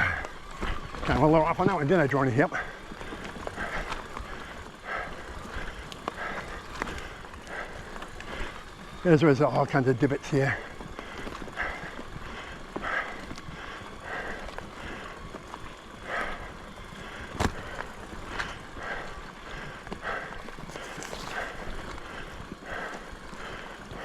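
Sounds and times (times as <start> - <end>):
bike tyres and frame rattling: 0.0 - 24.0.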